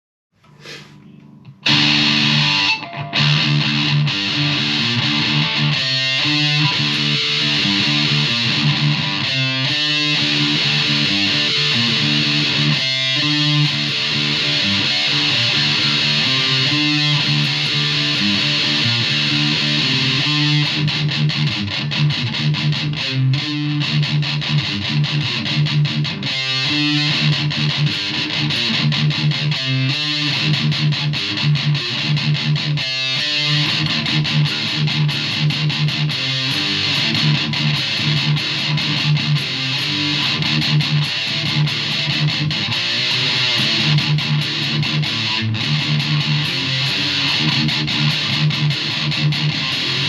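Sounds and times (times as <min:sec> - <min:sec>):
distorted electric guitar riff: 0:00.5 - 0:50.0.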